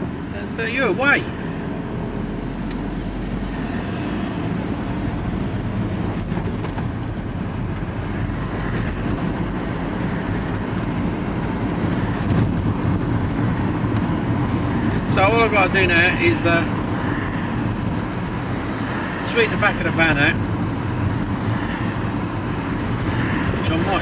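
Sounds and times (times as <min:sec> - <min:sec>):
van engine and road noise: 0:00.0 - 0:24.0.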